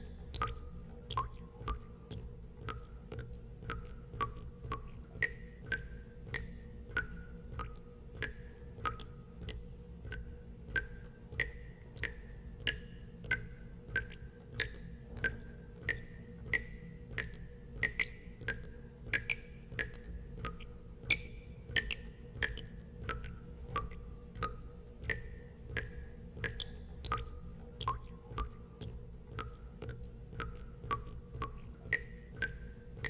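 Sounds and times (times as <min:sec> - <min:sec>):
low steady hum: 0:00.0 - 0:33.0
water drops plinking into water: 0:00.0 - 0:33.0.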